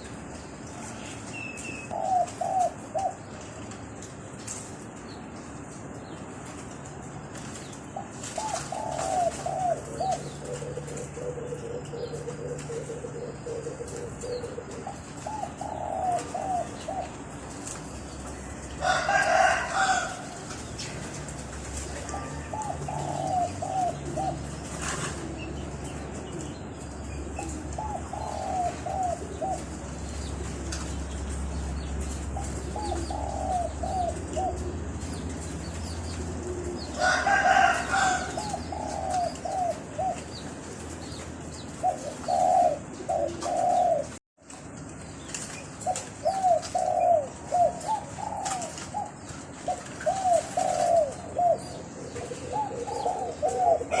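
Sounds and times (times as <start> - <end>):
doves cooing: 0.0 - 5.0, 6.5 - 54.0.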